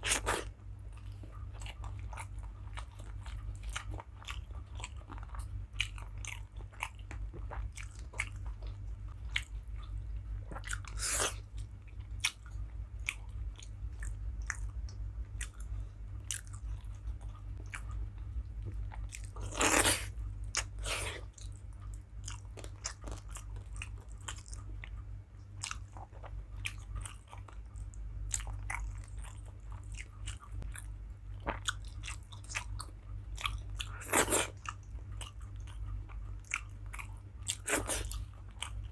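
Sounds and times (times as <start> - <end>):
low hum: 0.0 - 38.9
person chewing food: 0.0 - 38.9.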